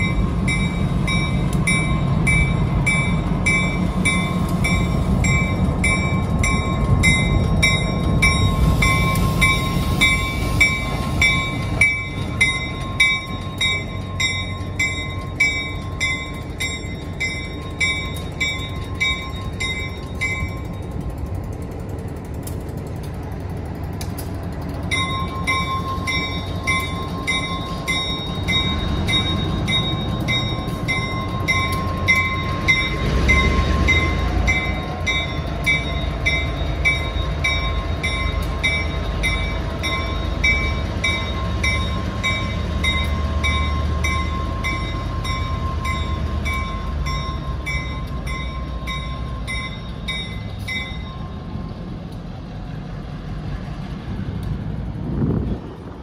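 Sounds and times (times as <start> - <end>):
crossing bell ringing: 0.0 - 21.5, 24.8 - 52.1
diesel locomotives rumbling: 0.0 - 56.0.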